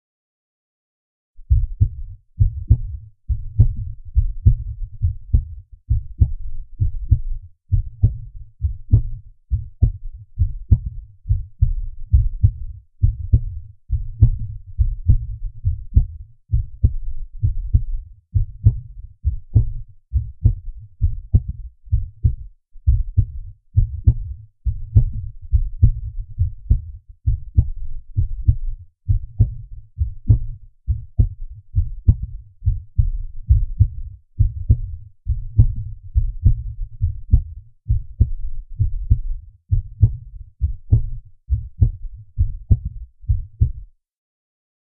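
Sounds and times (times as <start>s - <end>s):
heartbeat thumps: 1.4s - 43.9s.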